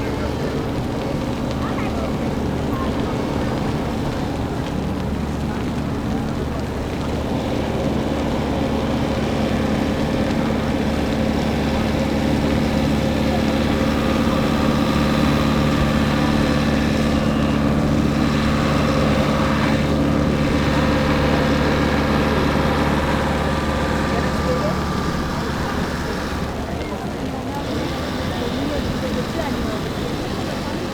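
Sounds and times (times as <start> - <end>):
large engine running steadily: 0.0 - 30.9.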